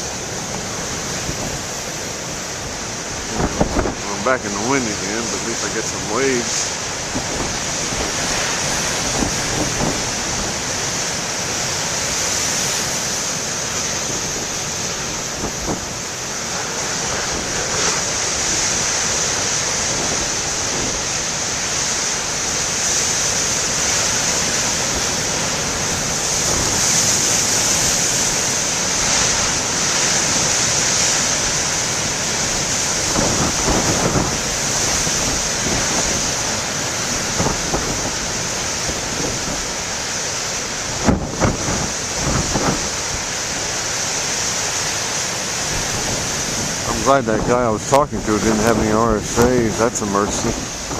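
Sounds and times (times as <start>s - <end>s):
surf breaking on rocks: 0.0s - 50.9s
wind buffeting microphone: 0.0s - 50.9s.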